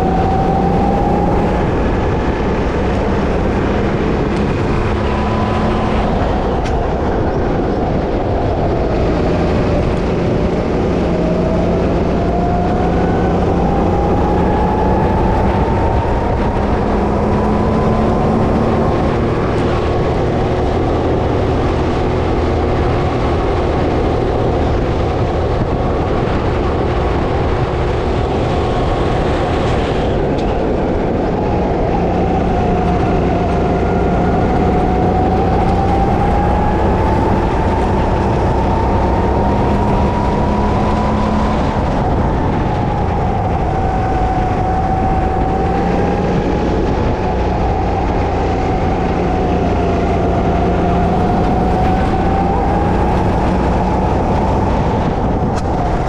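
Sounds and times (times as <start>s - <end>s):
dense steady rumble: 0.0s - 56.0s
go-kart engine running hard: 0.0s - 56.0s.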